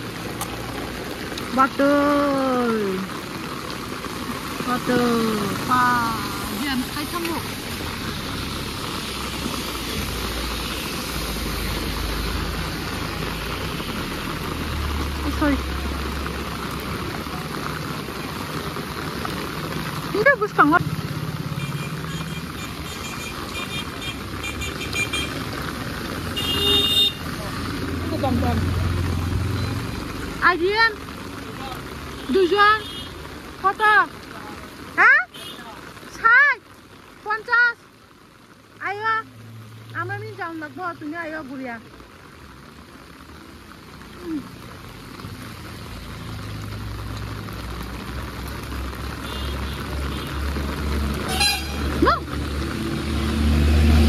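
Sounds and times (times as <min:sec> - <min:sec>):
rain hiss: 0:00.0 - 0:54.0
traffic on wet street: 0:00.0 - 0:54.0.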